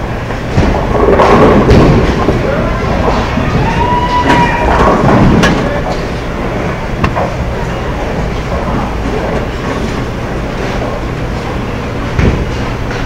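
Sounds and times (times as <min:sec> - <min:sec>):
bowling balls rolling: 0:00.0 - 0:13.0.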